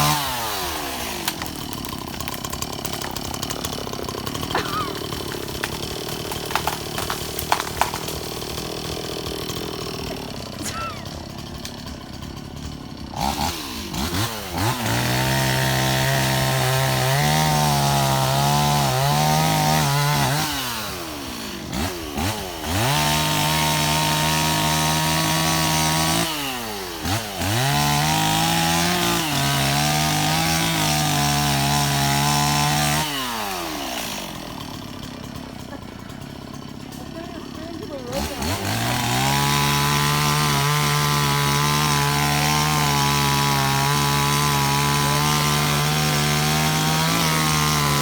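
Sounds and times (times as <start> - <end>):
chainsaw cutting and idling: 0.0 - 48.0.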